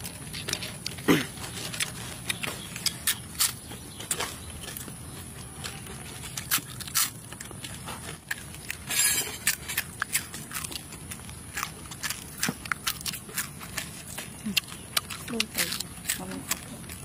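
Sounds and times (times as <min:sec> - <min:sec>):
close crunching and chewing: 0:00.0 - 0:17.0.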